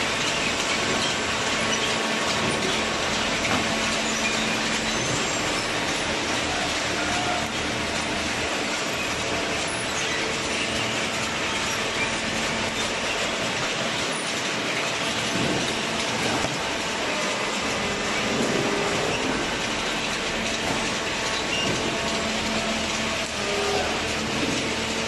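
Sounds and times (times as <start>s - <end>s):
baler machine running: 0.0s - 25.0s.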